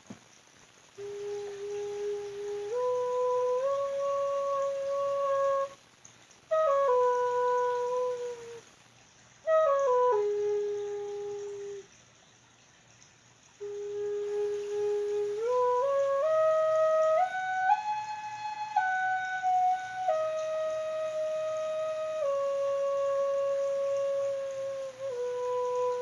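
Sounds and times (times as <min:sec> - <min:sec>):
flute-like instrument playing slow tune: 0:01.0 - 0:05.8, 0:06.5 - 0:08.6, 0:09.4 - 0:11.9, 0:13.6 - 0:26.0.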